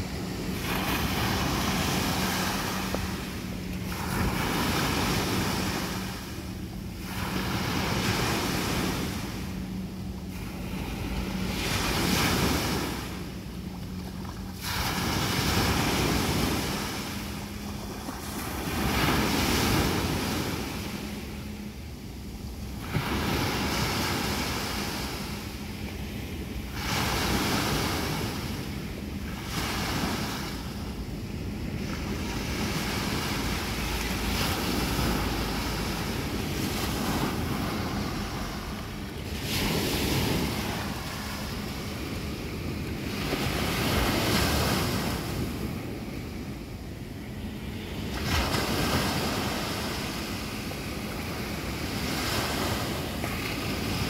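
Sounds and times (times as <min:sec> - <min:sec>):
small waves breaking on beach: 0:00.0 - 0:54.0.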